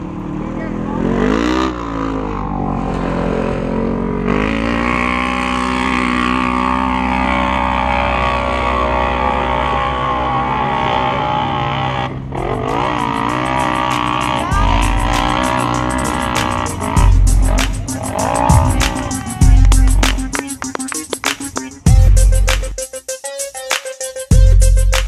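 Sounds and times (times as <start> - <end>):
off-road vehicle engine revving: 0.0 - 22.6.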